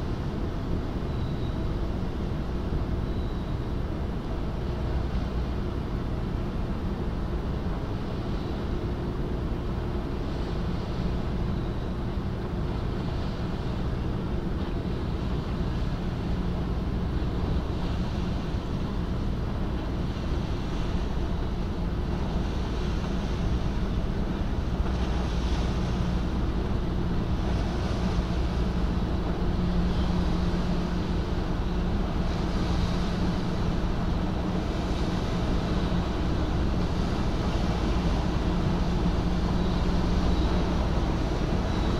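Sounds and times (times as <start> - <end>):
ferry engines droning: 0.0 - 41.9
water washing along hull: 0.0 - 41.9.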